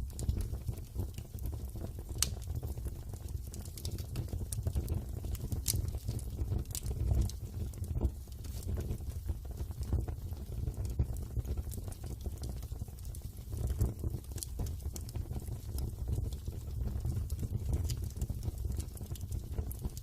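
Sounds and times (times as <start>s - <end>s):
fire crackling and popping: 0.0s - 20.0s
wood fire rumbling: 0.0s - 20.0s.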